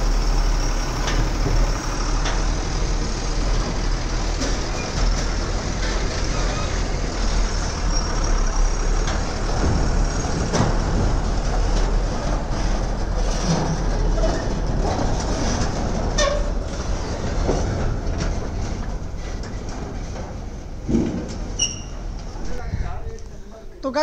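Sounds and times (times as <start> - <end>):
diesel truck engine rumbling: 0.0 - 24.0
steel trailer rattling: 0.0 - 24.0
knocks and clanks: 1.0 - 23.5.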